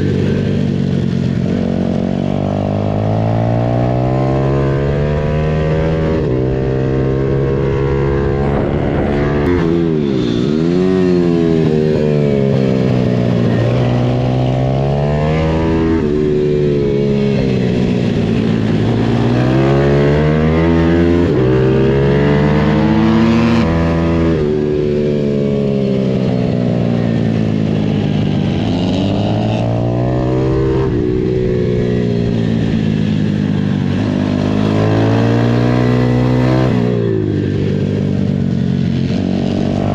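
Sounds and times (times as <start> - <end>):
pitbike engines revving: 0.0 - 39.9.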